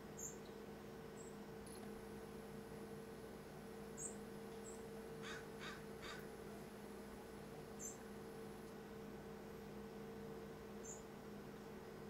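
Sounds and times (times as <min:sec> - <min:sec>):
songbirds chirping: 0:00.0 - 0:02.2, 0:03.3 - 0:12.0
faint steady hum: 0:00.0 - 0:12.0.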